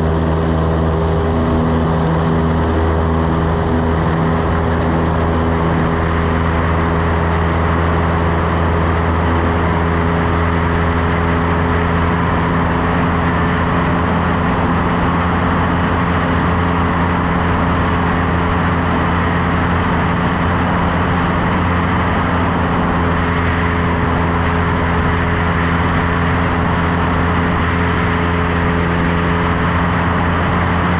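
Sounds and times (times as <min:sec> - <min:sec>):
airplane engine and propeller drone: 0:00.0 - 0:30.9.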